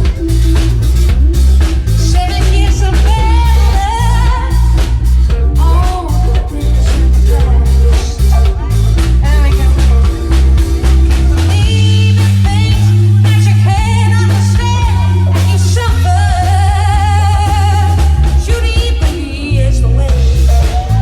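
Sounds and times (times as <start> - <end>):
heavy bass line: 0.0 - 21.0
person singing: 1.7 - 21.0.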